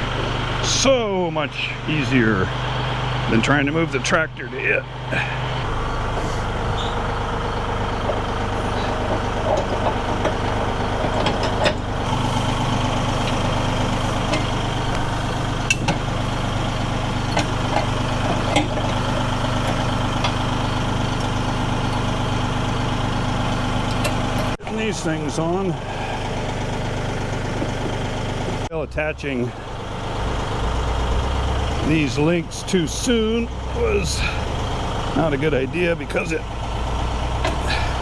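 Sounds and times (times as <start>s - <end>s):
tractor engine idling: 0.0s - 38.0s.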